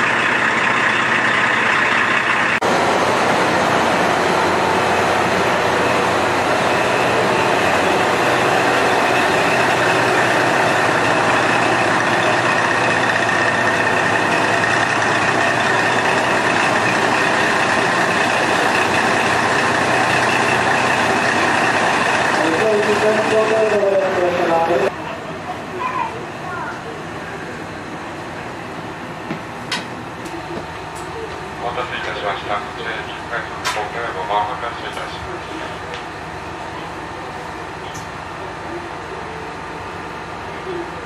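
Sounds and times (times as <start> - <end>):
diesel railcar engine idling: 0.0 - 41.0.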